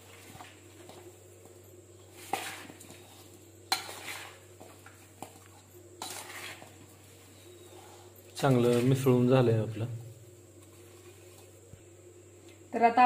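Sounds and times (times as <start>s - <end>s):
soft stirring: 0.0s - 12.6s.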